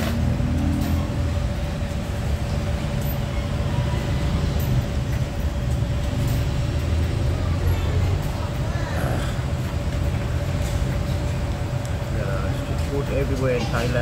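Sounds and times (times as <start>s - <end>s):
constant steady hum: 0.0s - 14.0s
motorbikes and cars passing: 0.0s - 14.0s
street traffic rumbling: 0.0s - 14.0s.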